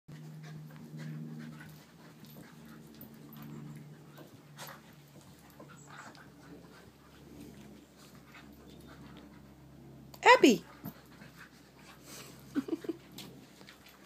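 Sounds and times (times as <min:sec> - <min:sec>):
dogs panting and scuffling: 0:00.1 - 0:14.0
steady low hum: 0:00.1 - 0:14.0.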